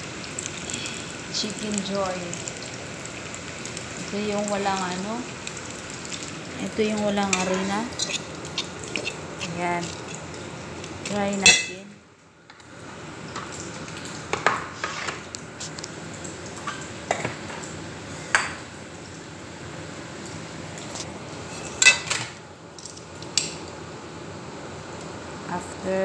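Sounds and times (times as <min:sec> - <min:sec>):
potatoes frying hiss: 0:00.0 - 0:26.0.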